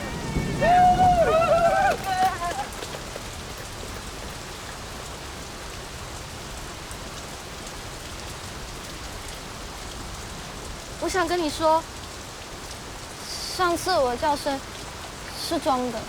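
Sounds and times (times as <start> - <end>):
heavy rain falling: 0.0 - 16.0
rain drops pattering: 0.0 - 16.0.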